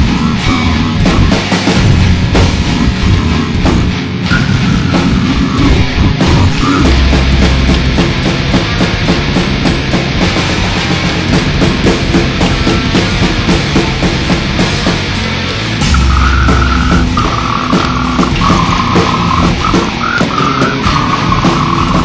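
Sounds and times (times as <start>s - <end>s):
death metal music: 0.0s - 22.0s
fast drum kit hits: 0.0s - 22.0s.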